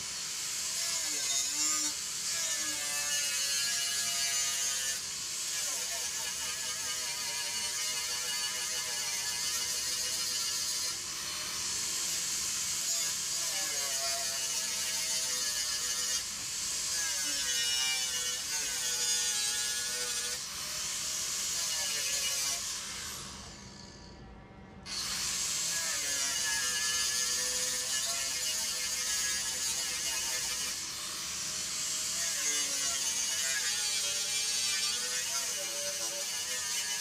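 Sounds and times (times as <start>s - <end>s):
angle grinder grinding steel: 0.5s - 23.9s, 24.9s - 37.0s.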